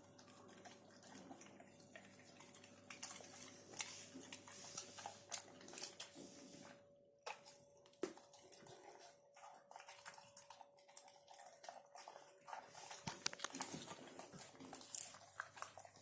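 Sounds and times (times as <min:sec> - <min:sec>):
dog chewing and licking: 0:00.0 - 0:16.0.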